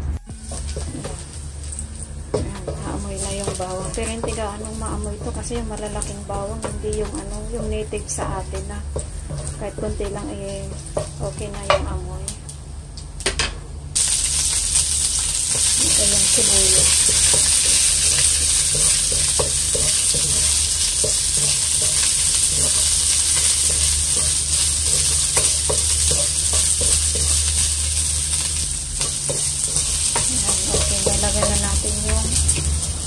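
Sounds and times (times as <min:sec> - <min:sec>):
low hum: 0:00.0 - 0:33.0
onion and garlic sizzling: 0:00.0 - 0:33.0
wooden spoon scraping a pan: 0:00.4 - 0:11.8, 0:15.1 - 0:33.0.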